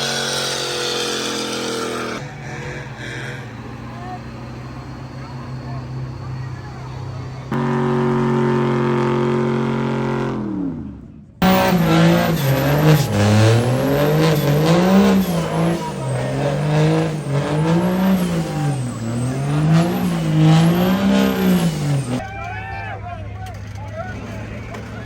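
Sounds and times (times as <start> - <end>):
engine revving up and down: 0.0 - 22.2
truck engine at high revs: 0.0 - 22.2.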